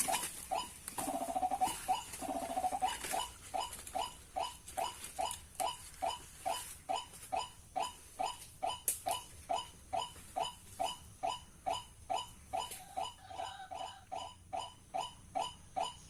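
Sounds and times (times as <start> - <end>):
birds calling short repeated notes: 0.0 - 16.0
grating croaking trill: 0.0 - 16.0.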